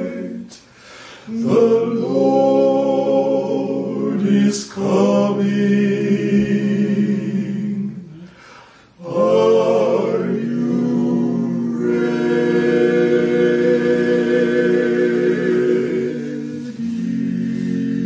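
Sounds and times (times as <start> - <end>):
vocal group singing held chords: 0.0 - 18.0.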